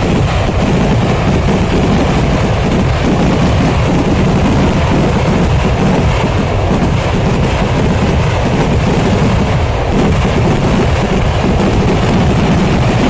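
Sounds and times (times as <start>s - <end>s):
firecracker explosions rumbling: 0.0s - 13.0s.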